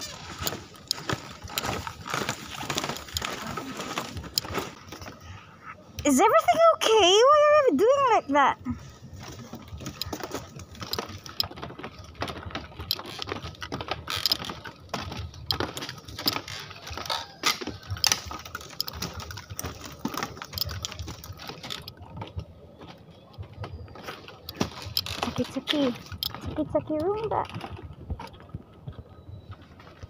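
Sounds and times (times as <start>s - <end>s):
footsteps on bamboo slats: 0.0s - 5.4s, 8.8s - 30.0s.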